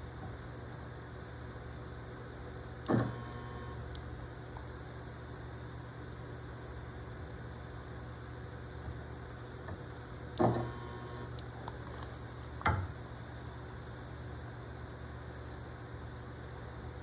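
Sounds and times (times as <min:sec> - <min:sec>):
welder electrical hum: 0:00.0 - 0:17.0.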